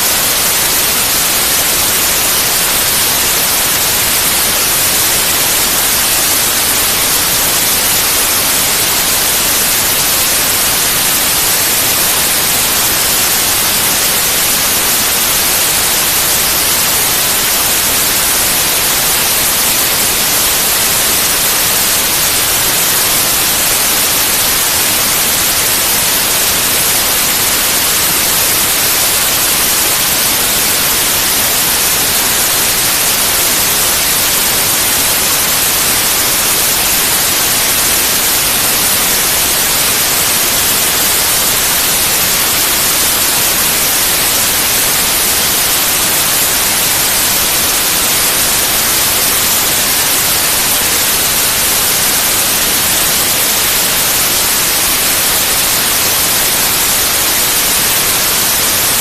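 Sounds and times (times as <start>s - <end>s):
loud white noise hiss: 0.0s - 59.0s.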